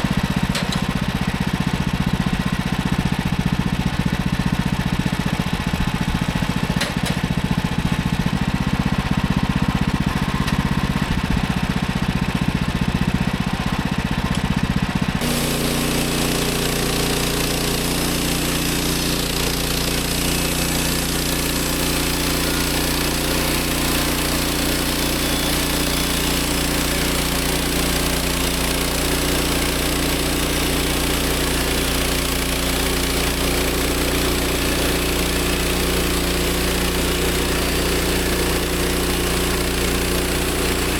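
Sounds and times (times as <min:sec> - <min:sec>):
bandsaw mill gas engine running: 0:00.0 - 0:40.9.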